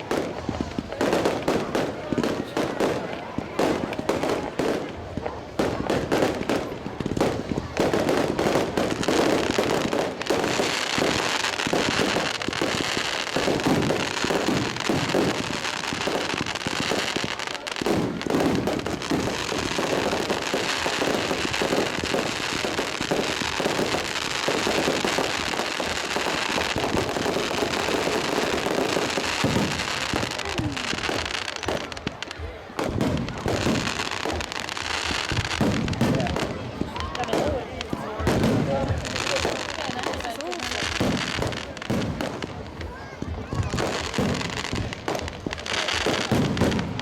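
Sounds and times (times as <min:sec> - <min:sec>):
fireworks banging and crackling: 0:00.0 - 0:47.0.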